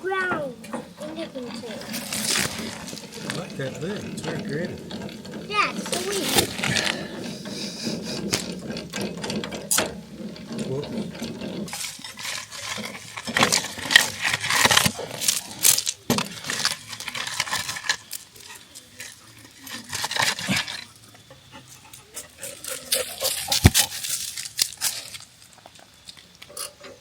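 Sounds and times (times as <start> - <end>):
hard objects clattering and scraping: 0.0 - 27.0.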